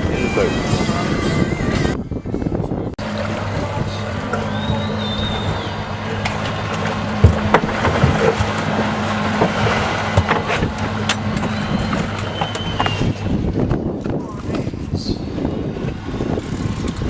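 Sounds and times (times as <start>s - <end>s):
boat engine idling: 0.0s - 17.0s
water noise: 0.0s - 17.0s
wind: 0.0s - 17.0s.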